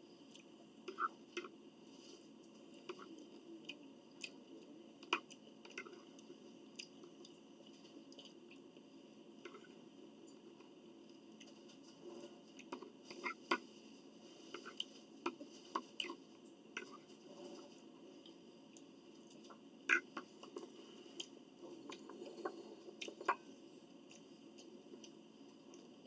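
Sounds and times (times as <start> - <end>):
faint hum: 0.0 - 26.0
chewing with clicks and smacks: 0.2 - 1.6, 2.4 - 13.6, 14.6 - 17.6, 18.2 - 26.0.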